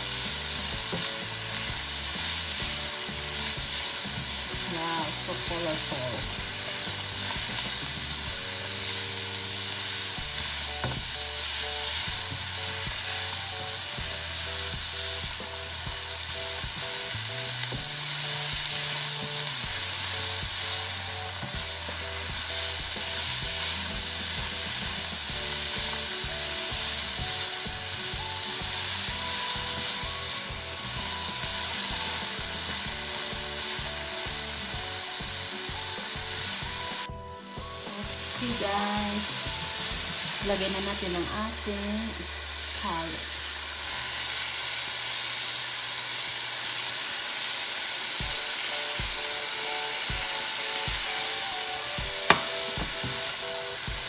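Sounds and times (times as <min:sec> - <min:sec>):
background music with bass line: 0:00.0 - 0:44.0, 0:48.2 - 0:54.0
vegetables sizzling in a frying pan: 0:00.0 - 0:54.0.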